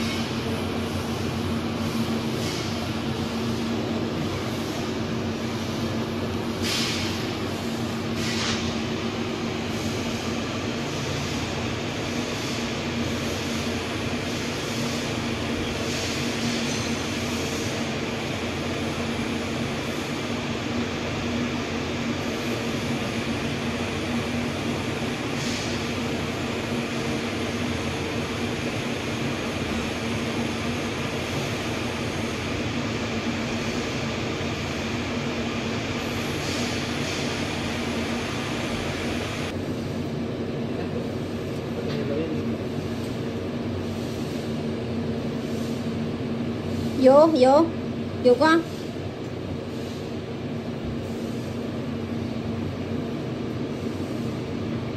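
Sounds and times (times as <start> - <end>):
machine hum: 0.0 - 54.9.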